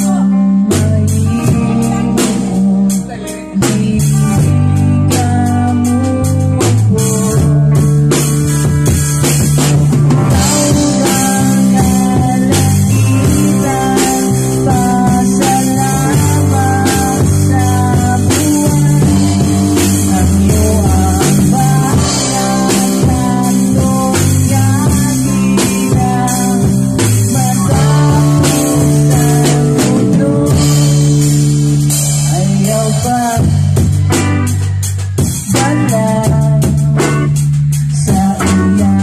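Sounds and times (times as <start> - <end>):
man singing into a microphone: 0.0 - 8.8, 10.2 - 34.6, 35.3 - 39.0
drum kit: 0.0 - 39.0
electric guitars: 0.0 - 39.0.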